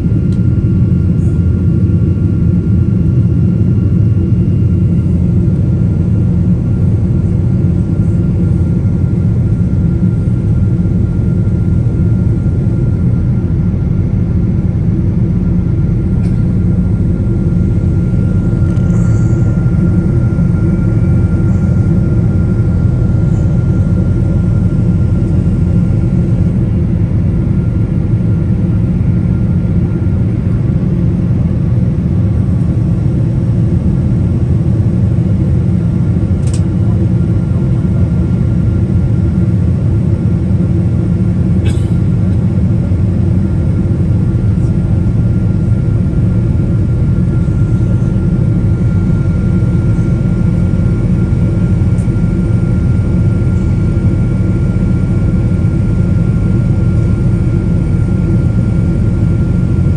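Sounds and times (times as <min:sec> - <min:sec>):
airplane cabin roar: 0:00.0 - 0:59.9
thin steady whine: 0:00.0 - 0:59.9.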